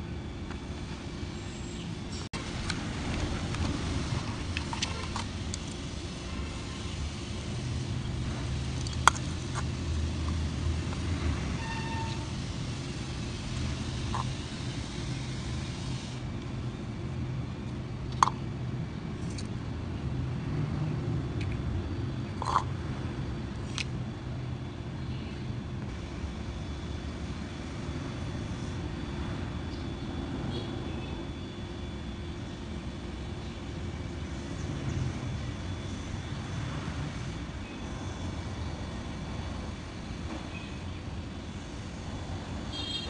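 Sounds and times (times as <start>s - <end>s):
steady low rumble: 0.0s - 42.8s.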